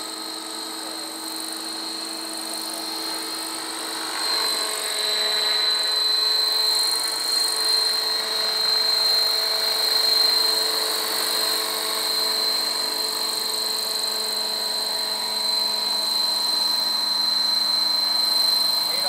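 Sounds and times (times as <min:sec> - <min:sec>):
model helicopter whining: 0:00.0 - 0:19.0.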